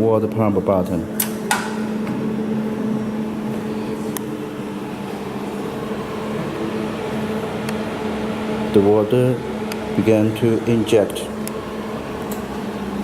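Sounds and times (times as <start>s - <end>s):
welding machine humming: 0.0s - 13.0s.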